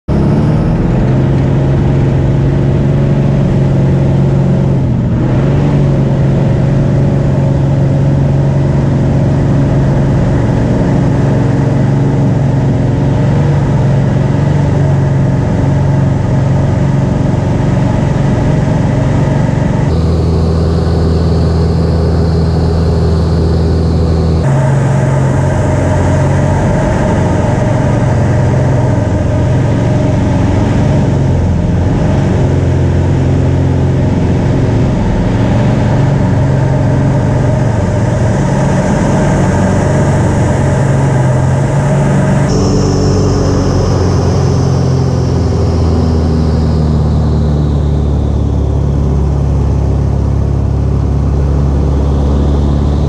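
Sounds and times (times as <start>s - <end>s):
light aircraft engine and propeller: 0.1s - 53.0s.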